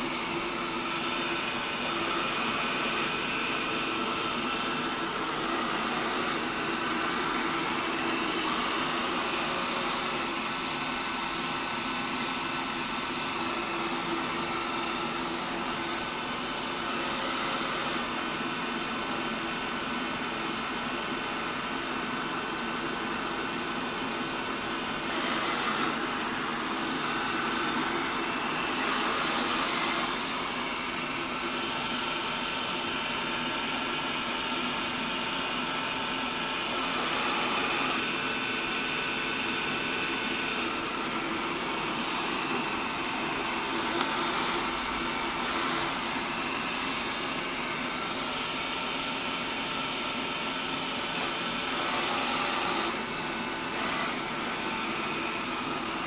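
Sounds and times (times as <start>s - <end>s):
robot vacuum whirring: 0.0s - 20.5s, 21.7s - 33.9s, 36.3s - 56.0s.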